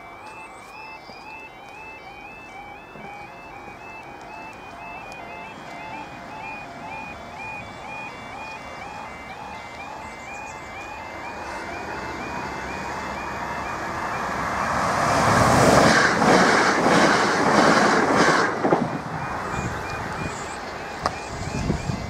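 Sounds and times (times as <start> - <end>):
electric train passing: 0.0 - 22.0
level crossing warning alarm: 0.0 - 22.0.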